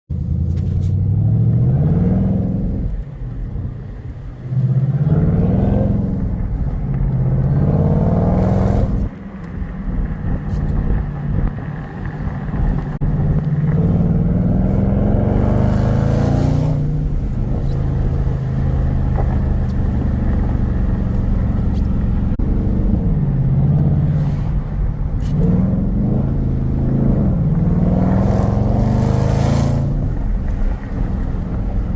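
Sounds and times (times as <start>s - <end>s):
car engine accelerating hard: 0.1s - 31.9s.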